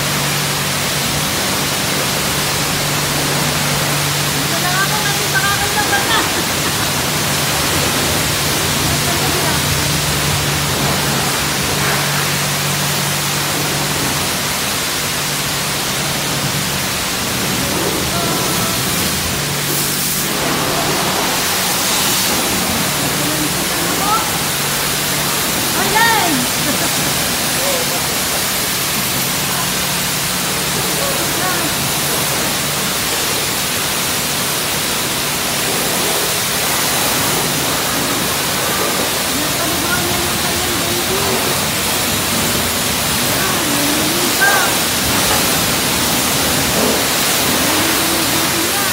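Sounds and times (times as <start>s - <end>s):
high-pressure water spray hissing: 0.0s - 48.9s
low machine hum: 0.0s - 48.9s.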